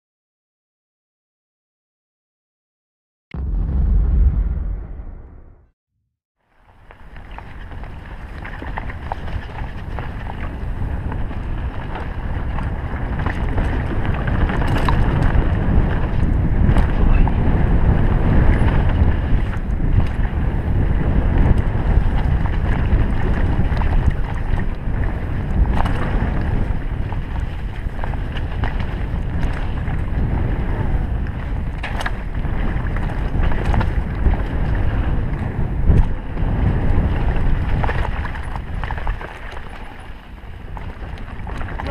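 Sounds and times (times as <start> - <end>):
wind rushing over microphone: 3.3 - 5.7, 6.7 - 41.9
bike tyres rumbling on dirt: 6.5 - 41.9
bike knocks and rattles: 6.9 - 41.9.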